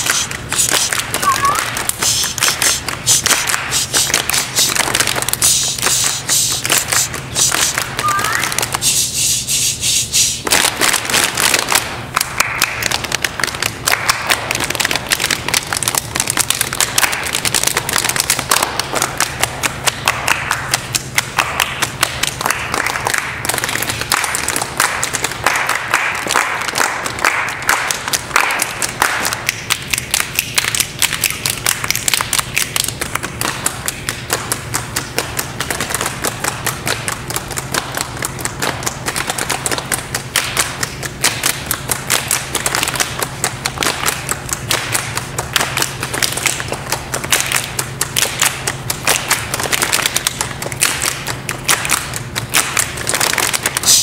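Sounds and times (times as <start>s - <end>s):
people snapping fingers and clapping: 0.0s - 54.0s.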